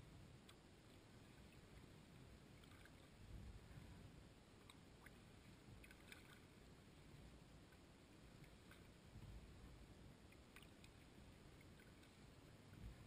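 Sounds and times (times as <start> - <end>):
paddle drips and splashes: 0.4 - 13.0.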